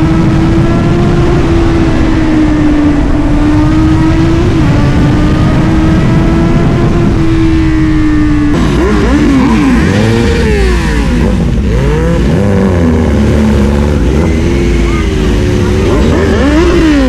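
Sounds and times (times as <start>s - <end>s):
motorcycle engine revving: 0.0s - 17.0s
wind rumble on microphone: 0.0s - 17.0s.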